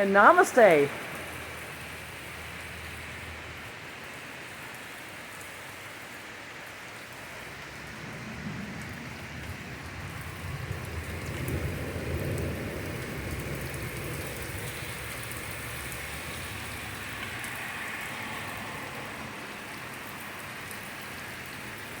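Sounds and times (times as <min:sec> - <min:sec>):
torrential rain pouring: 0:00.0 - 0:22.0.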